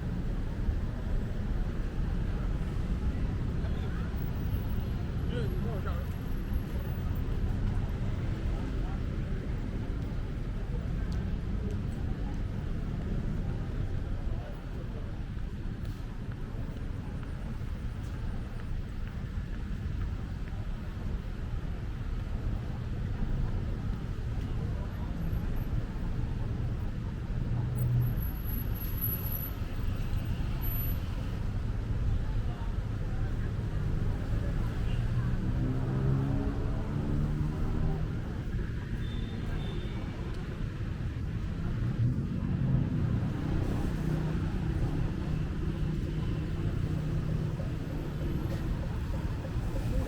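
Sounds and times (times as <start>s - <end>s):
car and bus engines passing: 0.0s - 50.0s
road traffic rumble: 0.0s - 50.0s.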